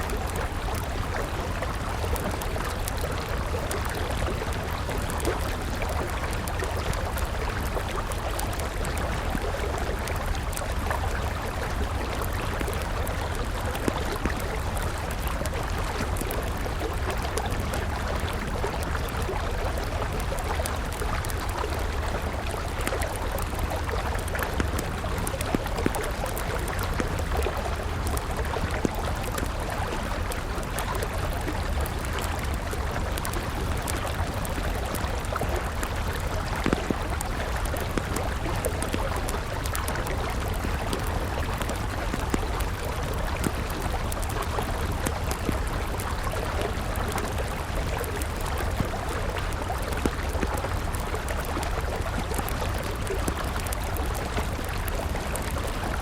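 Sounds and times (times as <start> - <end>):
river water running: 0.0 - 56.0
wood fire crackling: 0.1 - 56.0.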